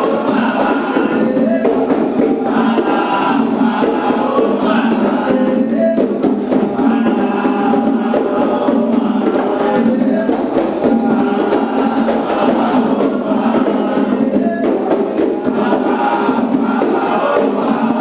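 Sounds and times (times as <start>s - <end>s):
group of voices chanting: 0.0s - 18.0s.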